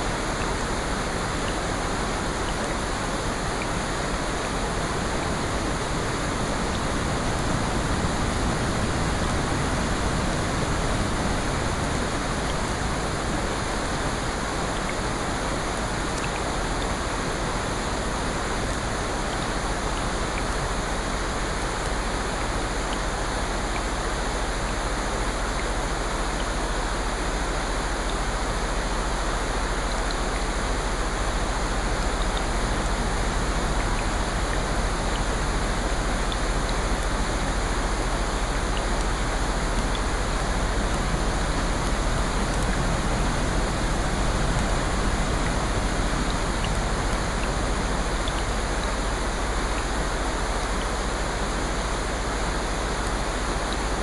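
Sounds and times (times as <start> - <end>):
faint raindrop ticks: 0.0 - 54.0
steady rain hiss: 0.0 - 54.0.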